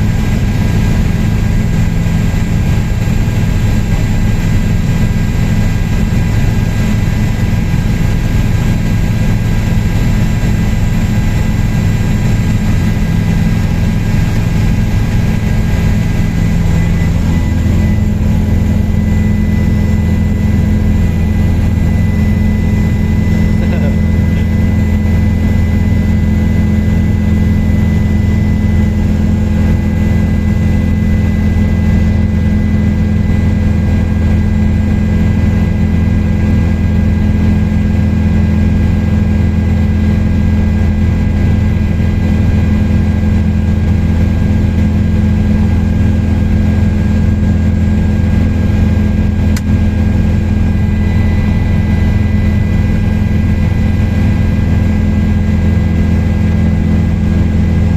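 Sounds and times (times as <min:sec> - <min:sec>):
helicopter rotor and engine drone: 0:00.0 - 0:57.9
high-pitched turbine whine: 0:00.0 - 0:57.9.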